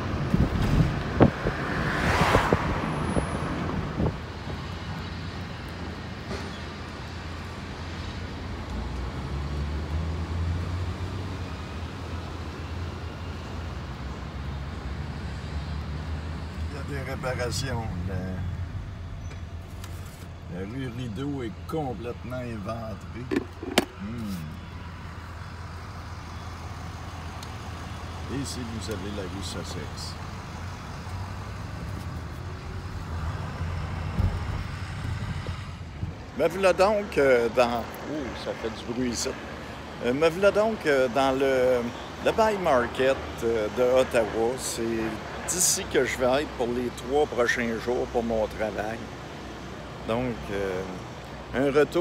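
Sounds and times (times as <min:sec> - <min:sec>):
car engine and tyres rumbling: 0:00.0 - 0:52.0.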